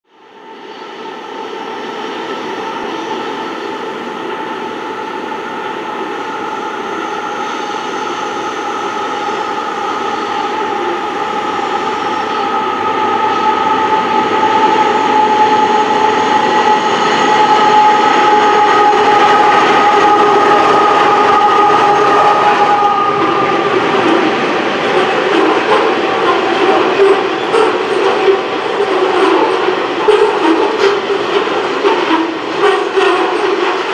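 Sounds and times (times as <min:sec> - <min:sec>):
steady high whine: 0:00.2 - 0:33.0.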